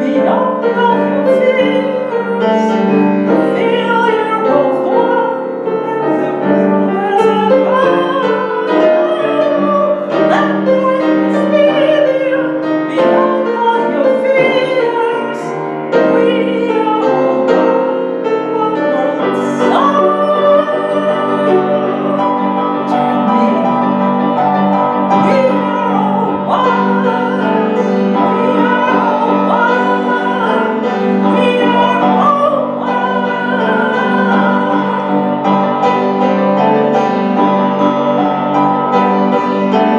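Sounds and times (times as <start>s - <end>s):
woman singing with vibrato: 0.0s - 37.4s
piano accompaniment: 0.0s - 39.9s.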